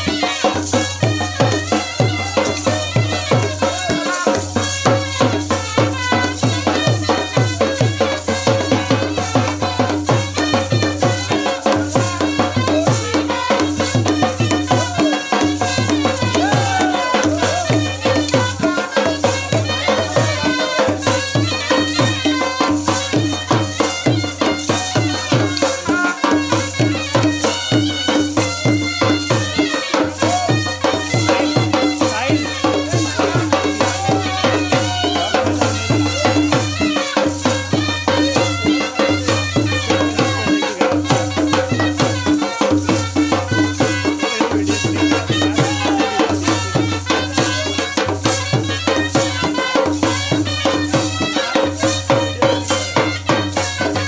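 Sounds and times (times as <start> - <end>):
fast steady drumming: 0.0 - 54.0.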